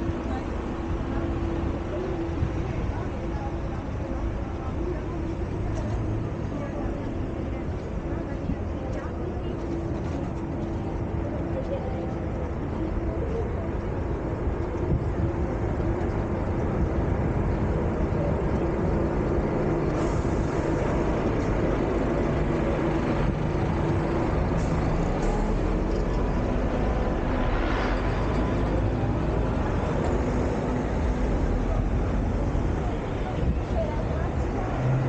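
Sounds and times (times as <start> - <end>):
road traffic engines humming: 0.0 - 35.0.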